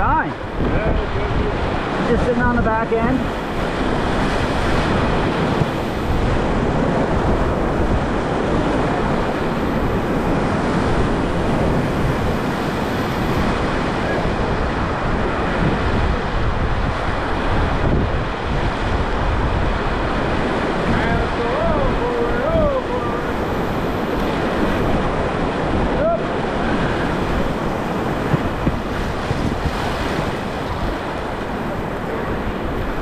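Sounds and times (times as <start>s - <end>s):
whitewater rushing: 0.0s - 33.0s
wind buffeting microphone: 0.0s - 33.0s.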